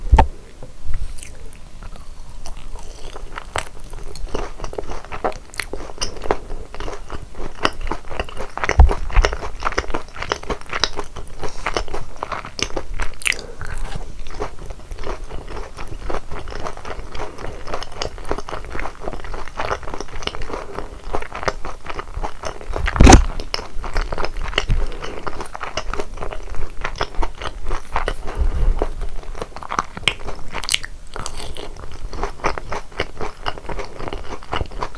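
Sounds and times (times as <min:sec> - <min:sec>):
crunchy chewing of fried chicken: 0:01.0 - 0:34.9.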